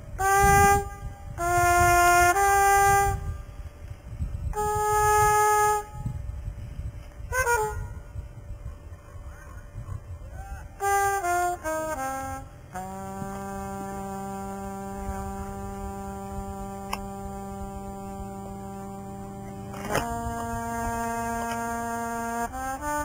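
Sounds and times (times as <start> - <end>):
solo brass horn playing jazz: 0.0 - 6.4, 7.2 - 8.2, 10.4 - 23.0.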